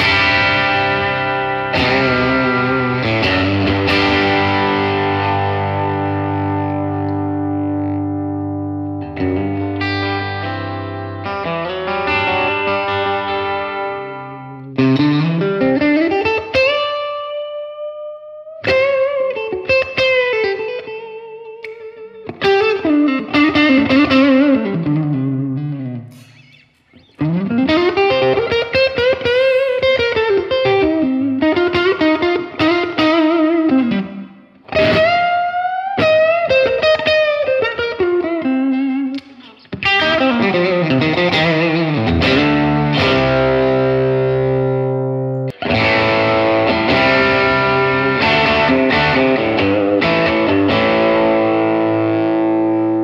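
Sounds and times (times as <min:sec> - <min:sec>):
electric guitar lead and chords: 0:00.0 - 0:53.0.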